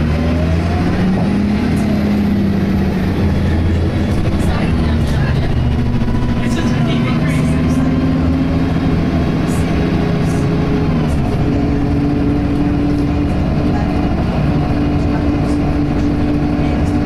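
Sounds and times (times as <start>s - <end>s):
bus transmission whine: 0.0s - 17.0s.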